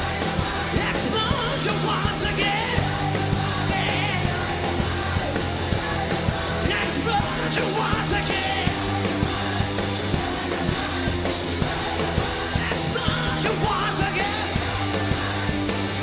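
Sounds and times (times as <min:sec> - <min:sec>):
drums: 0:00.0 - 0:16.0
electric guitar: 0:00.0 - 0:16.0
yelled and sung vocals: 0:00.0 - 0:16.0.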